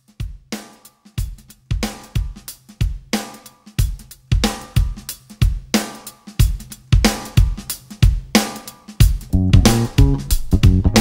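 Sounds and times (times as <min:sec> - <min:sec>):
drum-kit beat: 0:00.0 - 0:11.0.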